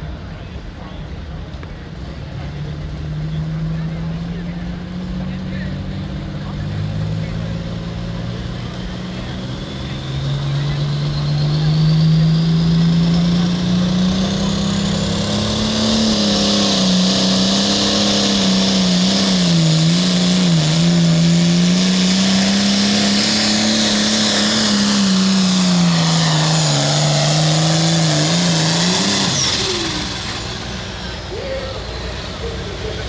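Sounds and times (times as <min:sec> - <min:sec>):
high turbo whine: 0:00.0 - 0:33.0
tractor diesel at full throttle: 0:00.0 - 0:33.0.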